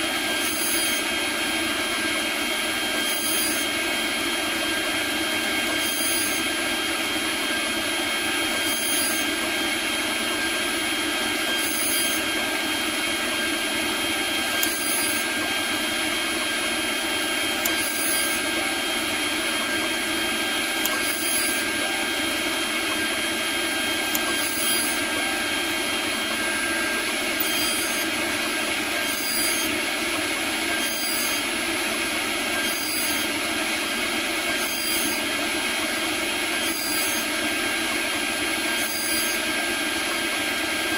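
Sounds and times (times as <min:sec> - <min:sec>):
end mill cutting plastic: 0:00.0 - 0:40.9
router spindle whining: 0:00.0 - 0:40.9.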